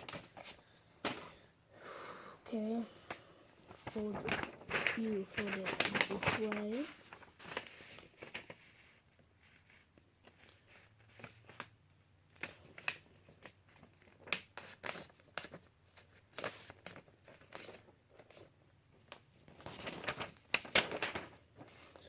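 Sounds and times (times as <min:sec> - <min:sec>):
paper rustling and crackling: 0:00.0 - 0:01.3, 0:02.5 - 0:22.0.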